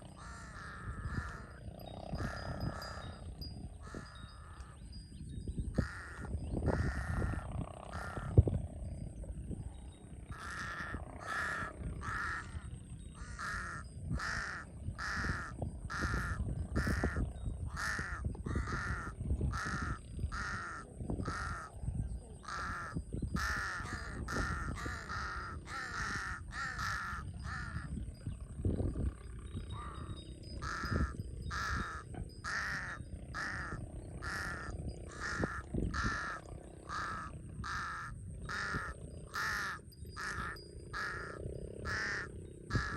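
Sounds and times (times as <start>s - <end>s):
crow cawing: 0.0s - 3.2s, 3.8s - 5.0s, 5.7s - 8.4s, 10.3s - 21.8s, 22.4s - 28.0s, 29.7s - 42.9s.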